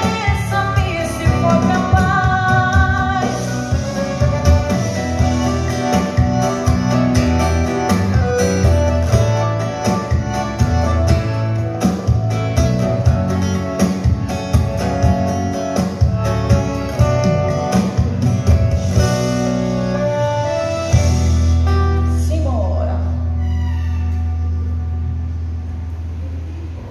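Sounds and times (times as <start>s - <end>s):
acoustic guitar playing: 0.0s - 26.2s.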